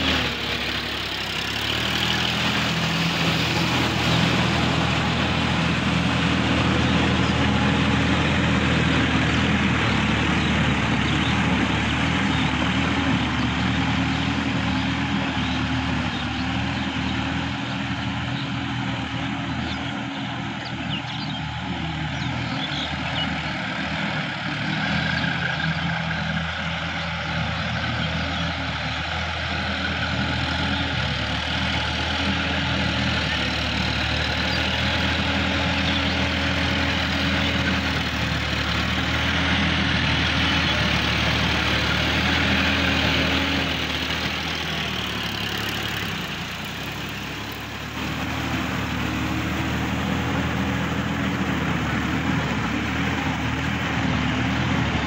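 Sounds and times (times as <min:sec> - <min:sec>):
implement churning water and mud: 0:00.0 - 0:55.0
tractor diesel engine: 0:00.0 - 0:55.0.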